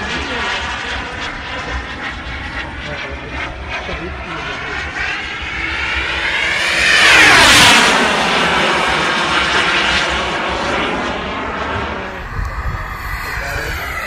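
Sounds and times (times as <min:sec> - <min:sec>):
model airplane engine flying past: 0:00.0 - 0:14.0.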